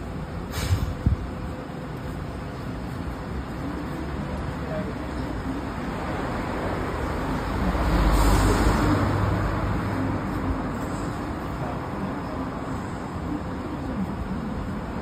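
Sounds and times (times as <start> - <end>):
steady traffic noise: 0.0 - 15.0
vehicle passing with low rumble: 0.0 - 15.0.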